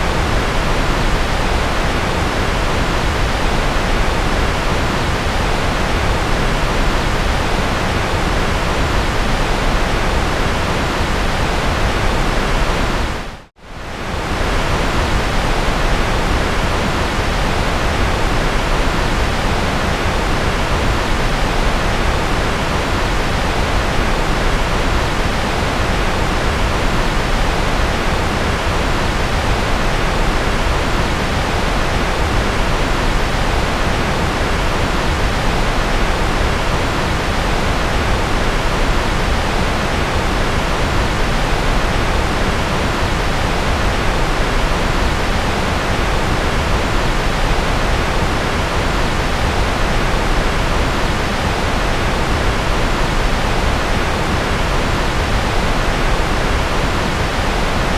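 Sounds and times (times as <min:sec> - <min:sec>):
white noise hiss: 0:00.0 - 0:57.9.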